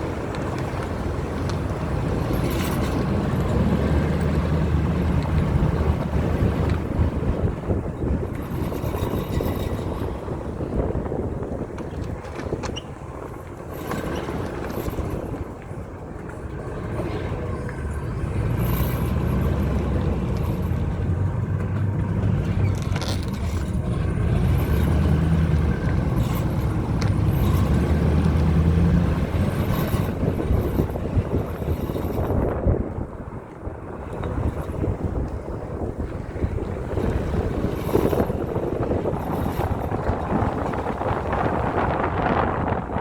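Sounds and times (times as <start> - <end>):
truck engine drone: 0.0 - 43.0.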